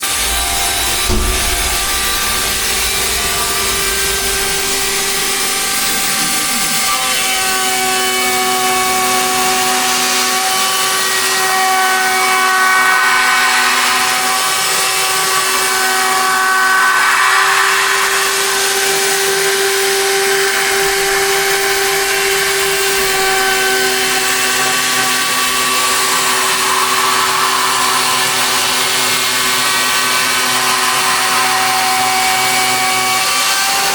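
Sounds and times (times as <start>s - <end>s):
cnc spindle whine: 0.0s - 33.9s
hiss of metal cutting: 0.0s - 33.9s.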